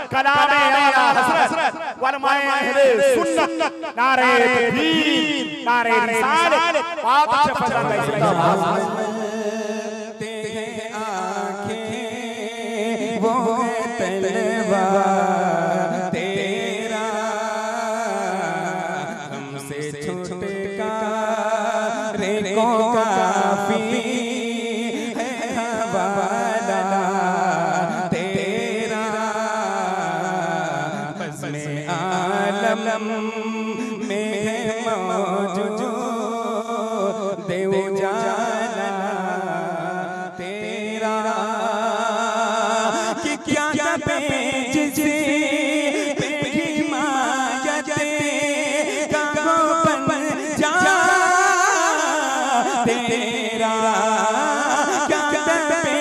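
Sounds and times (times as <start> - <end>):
man singing into a microphone: 0.0 - 56.0.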